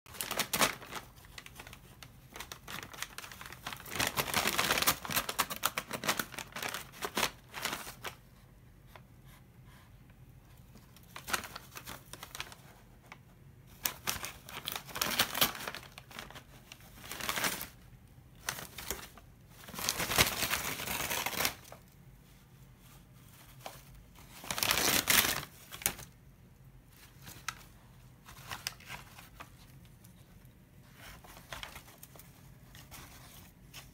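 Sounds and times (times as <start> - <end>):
paper bag rustling and crinkling: 0.1 - 8.4, 10.7 - 26.2, 26.8 - 33.9.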